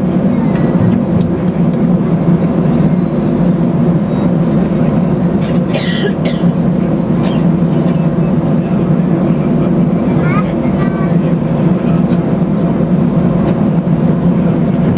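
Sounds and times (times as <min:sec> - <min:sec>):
jet engine cabin rumble: 0:00.0 - 0:14.9.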